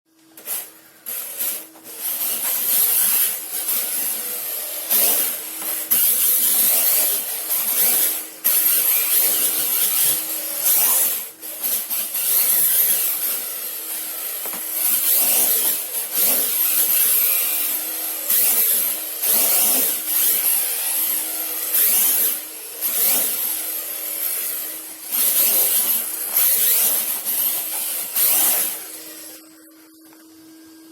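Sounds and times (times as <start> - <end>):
steady hum: 0.1 - 30.9
toy truck tyres hissing scrub: 0.4 - 29.4.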